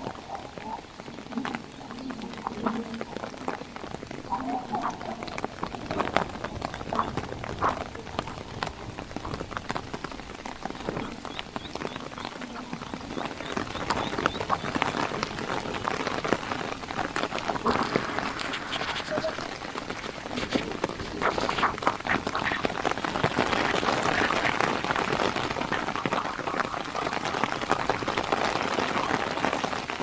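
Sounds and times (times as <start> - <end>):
heavy rain on a hard surface: 0.0 - 30.0.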